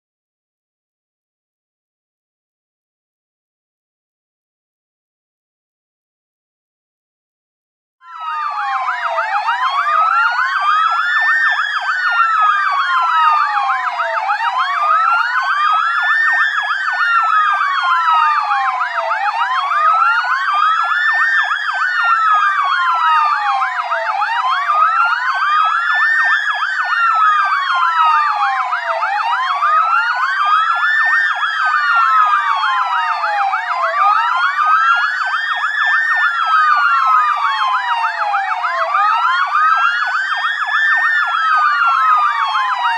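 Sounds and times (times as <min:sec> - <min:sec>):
police siren wailing: 0:08.0 - 0:42.9.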